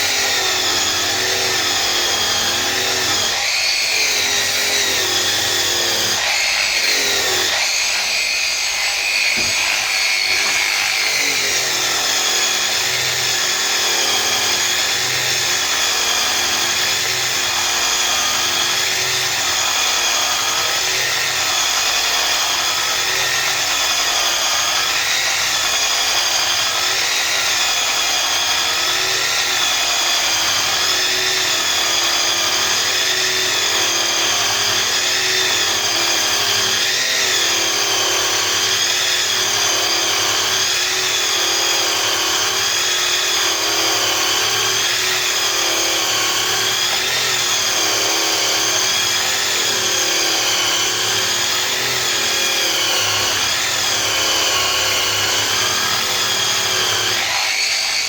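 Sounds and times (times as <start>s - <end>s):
grinder brush whining on metal: 0.0s - 58.0s.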